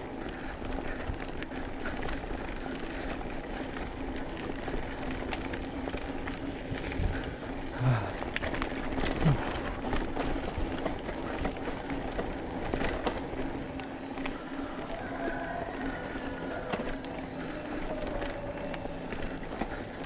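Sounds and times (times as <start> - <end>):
bike rattling: 0.0 - 20.0
tyre noise on dirt trail: 0.0 - 20.0.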